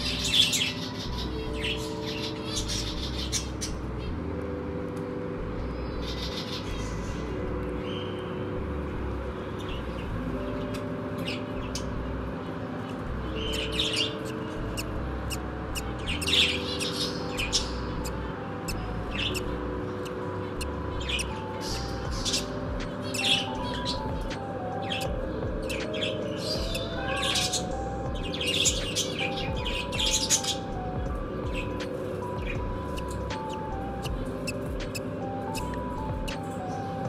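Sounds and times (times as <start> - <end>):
soft music of held chords: 0.0 - 37.0.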